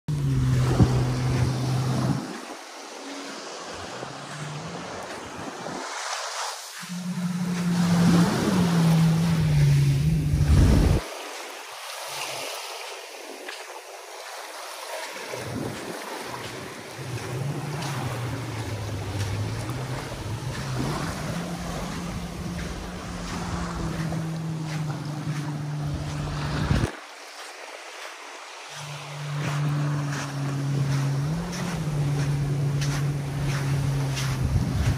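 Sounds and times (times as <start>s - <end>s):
boat engine hum: 0.0s - 34.9s
wind buffeting microphone: 0.1s - 6.1s, 6.8s - 11.1s, 15.3s - 27.5s, 28.7s - 34.9s
sea waves washing on beach: 0.1s - 34.9s.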